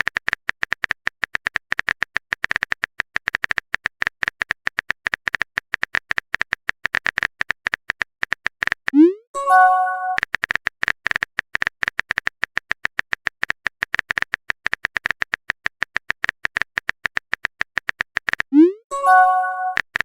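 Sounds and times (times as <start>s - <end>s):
rapid short clicks: 0.0s - 9.0s, 10.3s - 18.5s.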